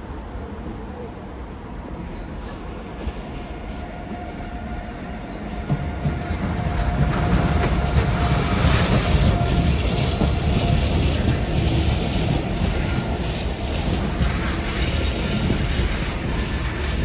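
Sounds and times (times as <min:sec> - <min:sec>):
train passing close by: 0:00.0 - 0:17.0.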